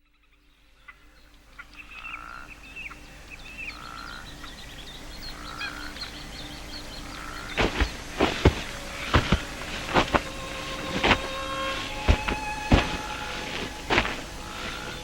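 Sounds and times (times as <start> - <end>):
frogs calling: 0.8 - 15.0.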